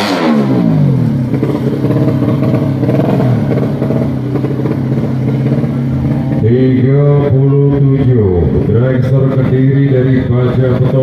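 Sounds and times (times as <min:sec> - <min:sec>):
motorcycle engine revving high: 0:00.0 - 0:11.0.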